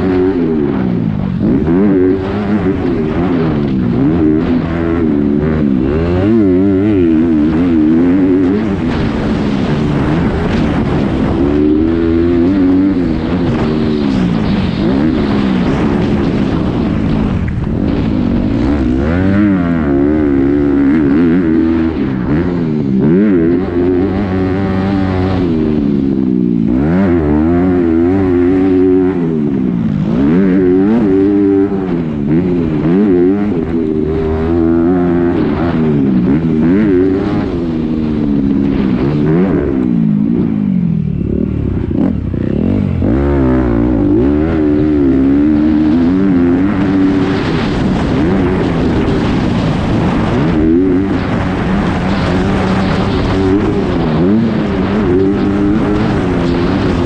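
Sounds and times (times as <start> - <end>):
dirt bike engine revving: 0.0 - 57.0
wind rushing over microphone: 0.0 - 57.0.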